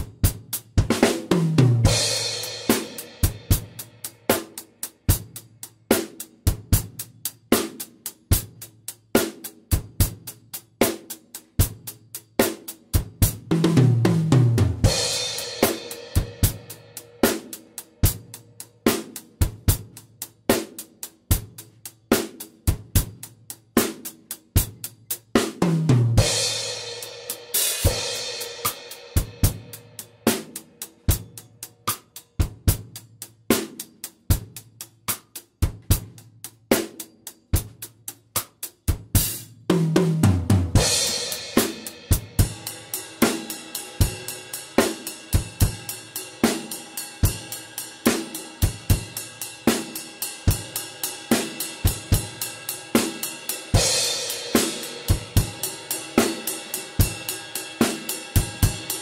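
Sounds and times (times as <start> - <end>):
drum kit groove: 0.0 - 59.0.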